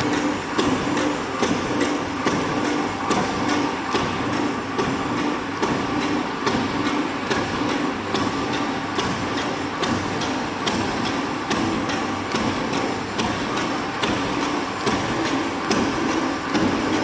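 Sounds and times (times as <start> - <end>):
machine motor hum: 0.0 - 17.0.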